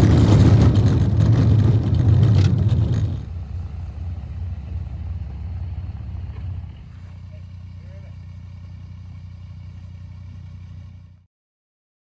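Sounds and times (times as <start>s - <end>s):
car engine and road noise: 0.0s - 11.3s.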